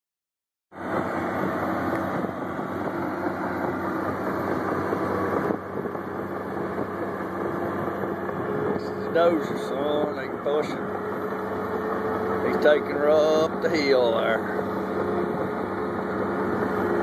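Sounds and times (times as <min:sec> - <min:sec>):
bulldozer diesel engine: 0:00.8 - 0:17.0.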